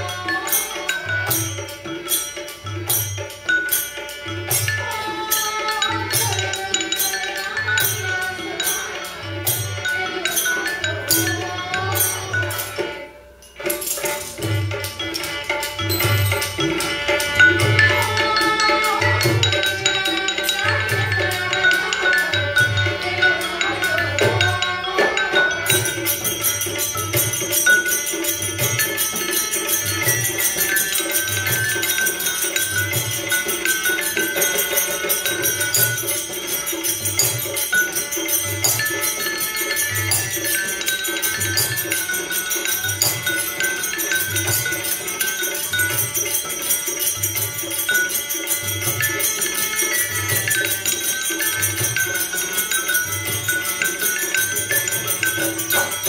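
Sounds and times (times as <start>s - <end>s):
small cymbals jingling: 0.0s - 56.0s.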